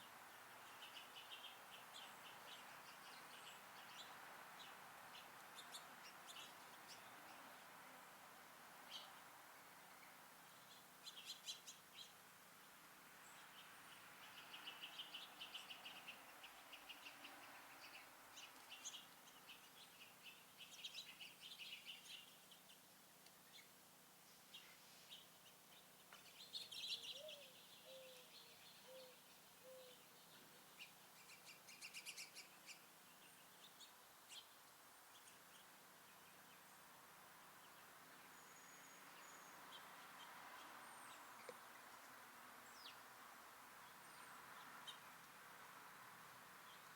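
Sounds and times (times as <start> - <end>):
small songbirds chirping: 0.0 - 46.9.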